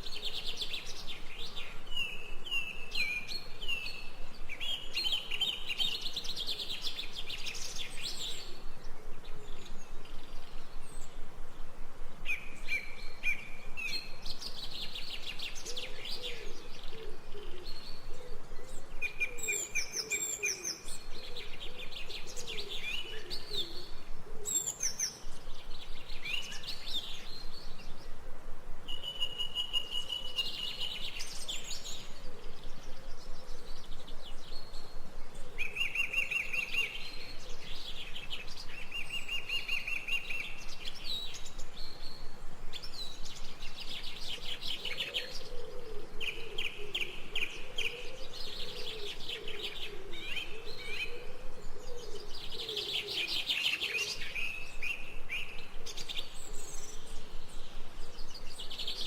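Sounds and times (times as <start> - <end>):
birds chirping and trilling: 0.0 - 28.2, 28.8 - 59.0.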